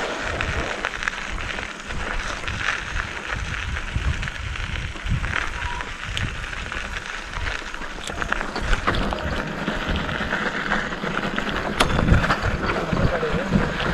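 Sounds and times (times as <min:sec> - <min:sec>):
bicycle clicks and rattles: 0:00.0 - 0:13.9
wind buffeting microphone: 0:00.0 - 0:13.9.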